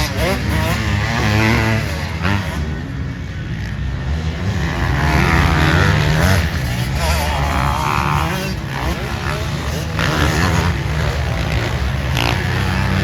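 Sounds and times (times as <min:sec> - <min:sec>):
dirt bike engines revving: 0:00.0 - 0:13.0
low drone of bikes: 0:00.0 - 0:13.0.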